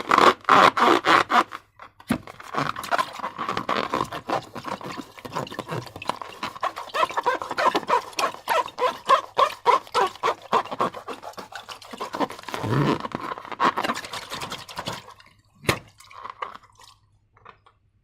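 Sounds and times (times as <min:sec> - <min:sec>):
slime squelching and squeaking: 0:02.3 - 0:17.6.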